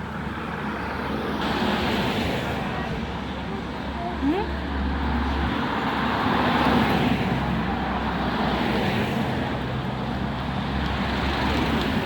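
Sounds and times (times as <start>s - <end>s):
road vehicle engine hum: 0.0s - 12.0s.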